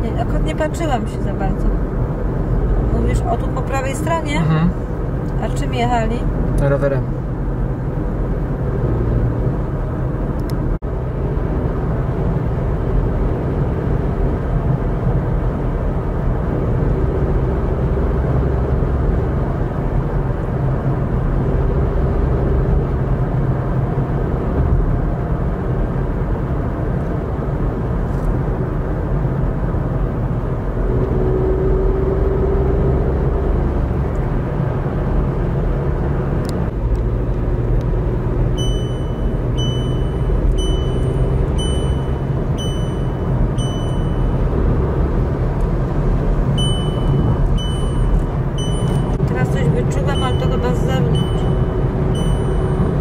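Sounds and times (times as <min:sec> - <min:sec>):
car driving on road: 0:00.0 - 0:53.0.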